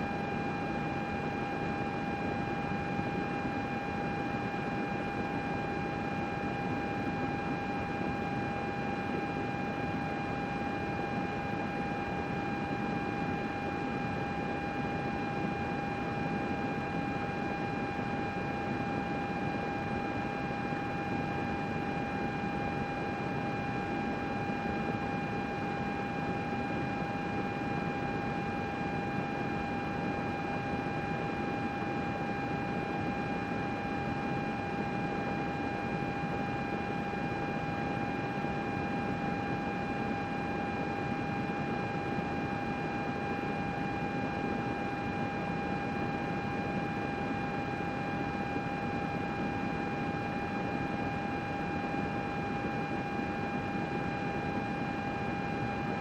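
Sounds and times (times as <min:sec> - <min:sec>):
constant high whine: 0:00.0 - 0:56.0.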